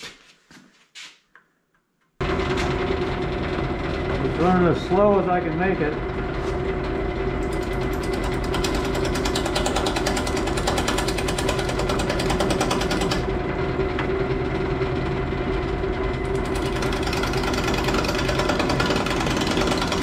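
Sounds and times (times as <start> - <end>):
lathe motor hum: 2.2 - 20.0.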